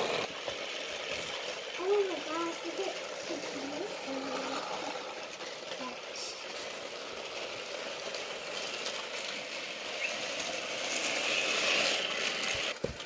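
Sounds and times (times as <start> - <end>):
toy train motors whirring: 0.0 - 13.0.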